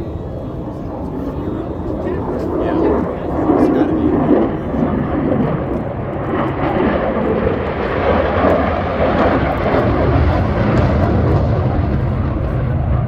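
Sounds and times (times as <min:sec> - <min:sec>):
jet engine rumble: 0:00.0 - 0:13.0.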